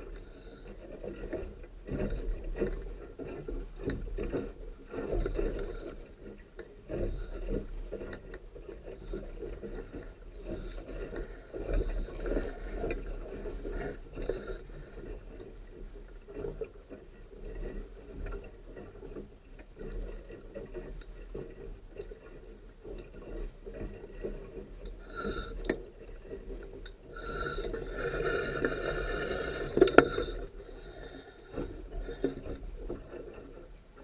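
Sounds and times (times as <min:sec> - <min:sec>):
water splashing along a hull: 0:00.0 - 0:34.0.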